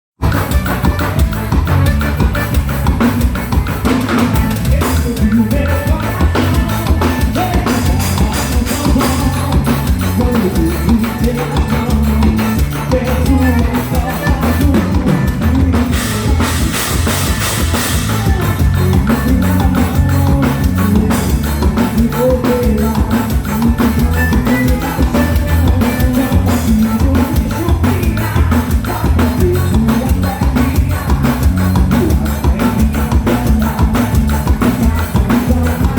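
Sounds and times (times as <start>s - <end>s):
band playing: 0.2s - 35.9s
drum kit beat: 0.2s - 35.9s.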